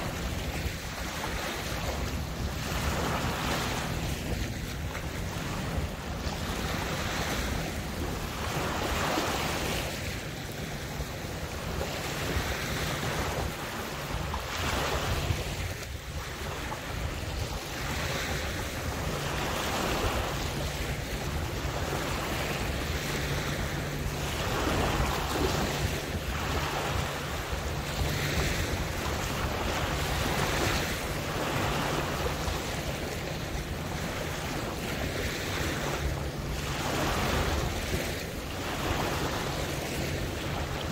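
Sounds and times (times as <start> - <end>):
small waves lapping: 0.0 - 40.9
wind buffeting microphone: 0.0 - 40.9.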